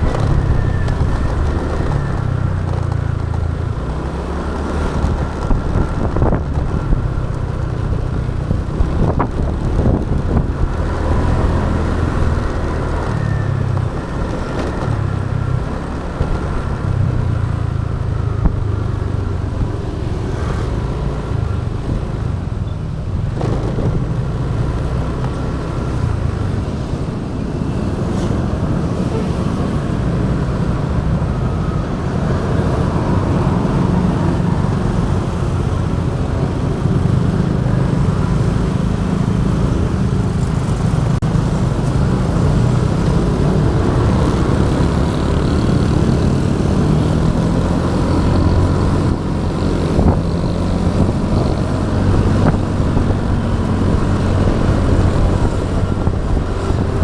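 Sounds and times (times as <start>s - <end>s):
road and traffic noise: 0.0s - 57.0s.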